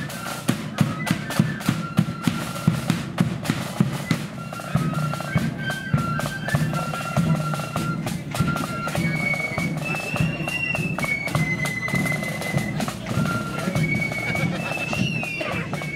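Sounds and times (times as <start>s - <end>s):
flutes playing shrill melody: 0.0s - 15.9s
snare and bass drum beats: 0.0s - 15.9s.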